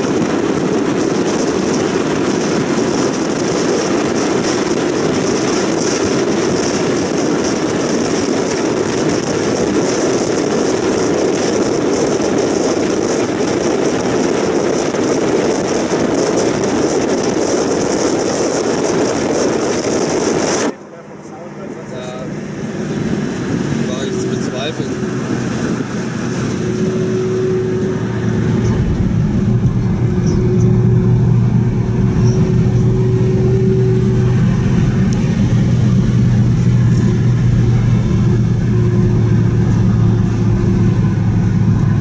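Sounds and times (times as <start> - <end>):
wind rush inside moving car: 0.0 - 42.0.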